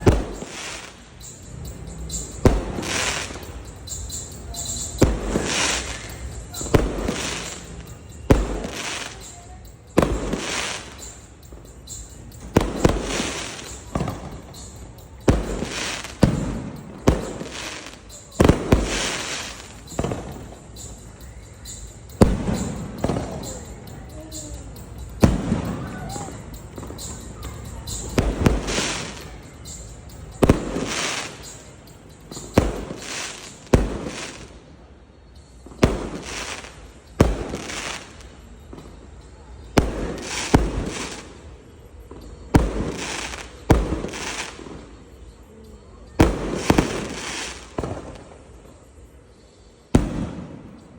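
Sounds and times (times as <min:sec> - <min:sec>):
firework shells booming: 0:00.0 - 0:34.6, 0:35.4 - 0:45.1, 0:46.2 - 0:48.4, 0:49.9 - 0:50.9
firework crackle and echo: 0:00.0 - 0:50.9.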